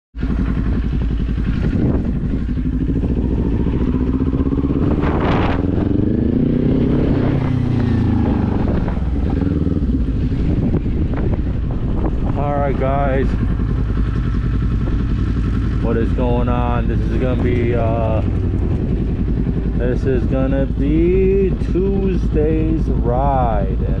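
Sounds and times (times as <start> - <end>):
motorcycle engine running: 0.2 - 24.0
wind buffeting microphone: 0.2 - 24.0.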